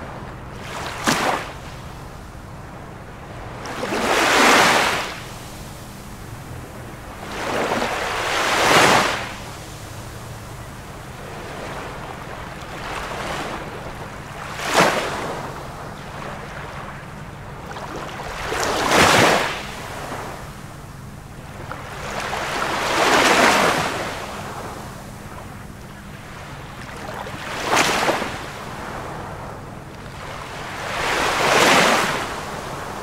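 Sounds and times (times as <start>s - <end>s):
ocean waves washing in: 2.8s - 33.0s.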